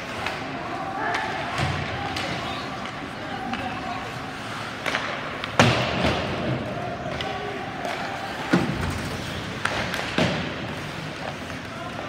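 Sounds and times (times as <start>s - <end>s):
puck and sticks hitting boards: 0.0s - 12.0s.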